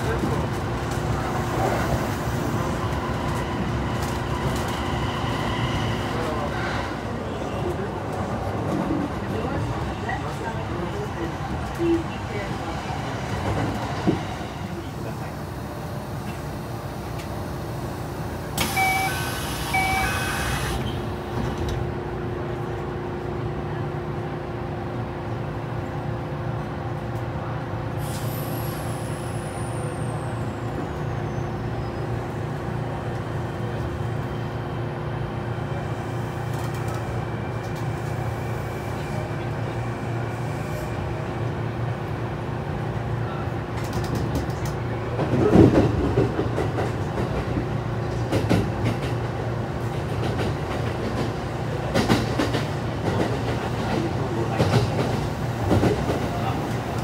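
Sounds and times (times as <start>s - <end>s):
train rumble and motor hum: 0.0s - 57.0s.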